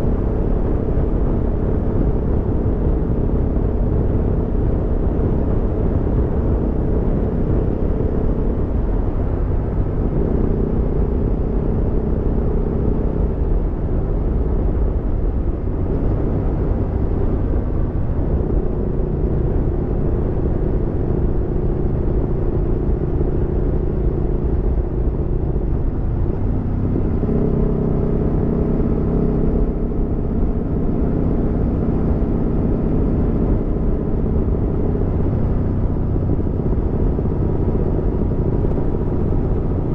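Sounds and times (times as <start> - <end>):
motorcycle engine running: 0.0 - 39.9
wind and road rumble: 0.0 - 39.9.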